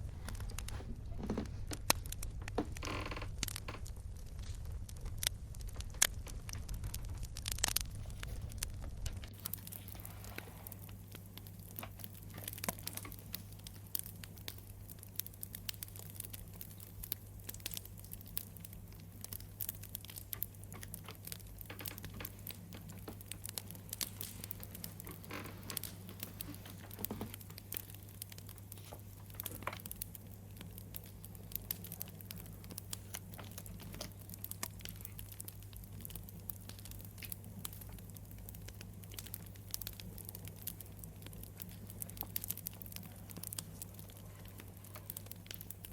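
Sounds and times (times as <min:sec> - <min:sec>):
steady low hum: 0:00.0 - 0:45.9
wood fire crackling: 0:00.0 - 0:45.9.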